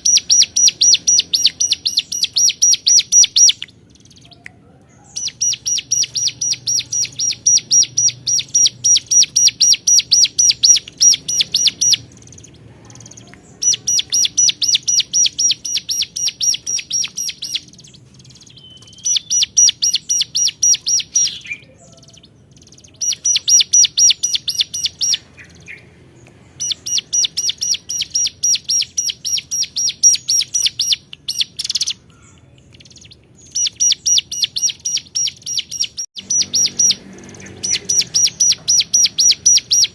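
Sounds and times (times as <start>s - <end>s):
bird singing sharp repeated notes: 0.0s - 39.9s.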